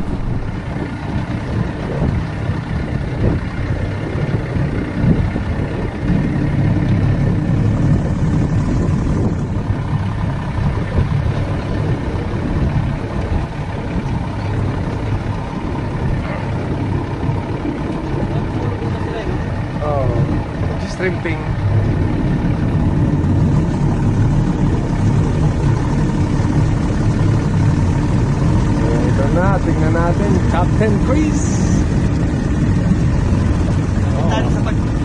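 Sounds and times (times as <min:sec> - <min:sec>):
motorboat engine humming: 0:00.0 - 0:35.0.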